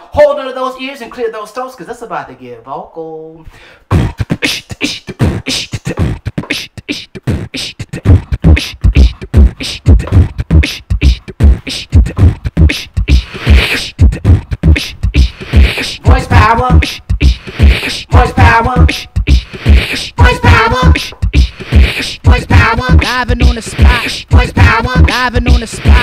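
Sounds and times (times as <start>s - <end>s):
deep beatbox kick: 3.8s - 26.0s
beatboxing clicks and snares: 3.9s - 26.0s.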